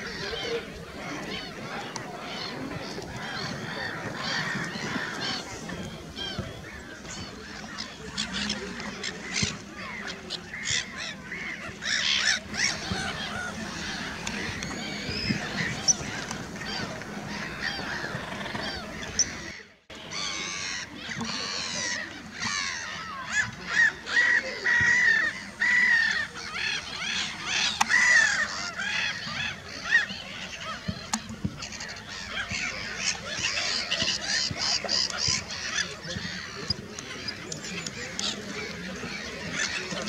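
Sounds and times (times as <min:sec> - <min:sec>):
waterbirds harsh calls: 0:00.0 - 0:40.0.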